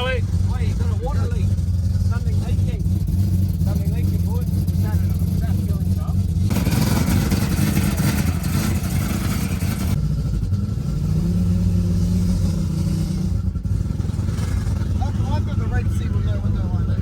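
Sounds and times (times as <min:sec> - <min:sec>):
loud car engine running: 0:00.0 - 0:17.0.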